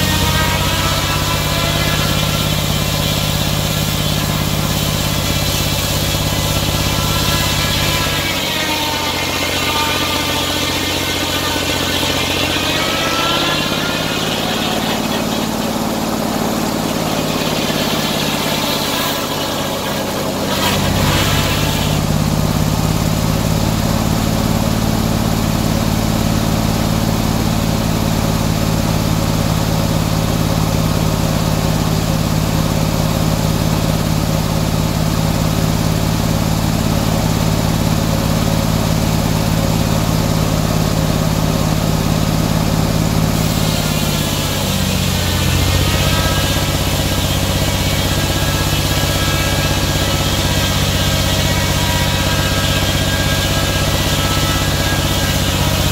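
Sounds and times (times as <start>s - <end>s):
circular saw blade sawing log: 0.0s - 55.9s
mill power unit droning: 0.0s - 55.9s.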